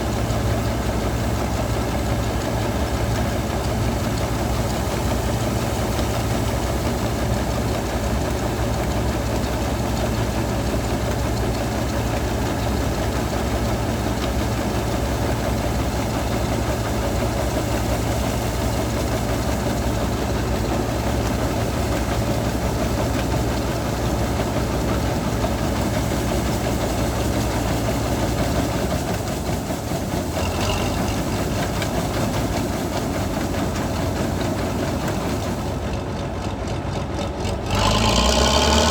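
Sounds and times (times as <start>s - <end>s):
combine harvester diesel engine: 0.0s - 38.9s.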